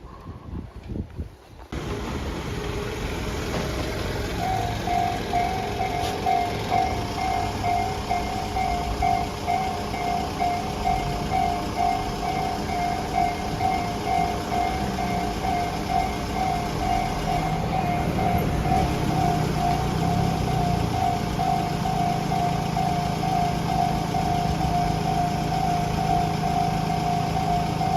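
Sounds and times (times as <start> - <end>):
railroad crossing bell: 2.6 - 27.9.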